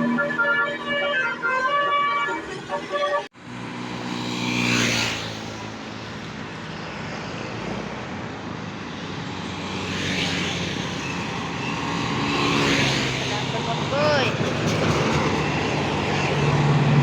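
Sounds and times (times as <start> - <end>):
rushing noise of passing buses: 0.0 - 17.0.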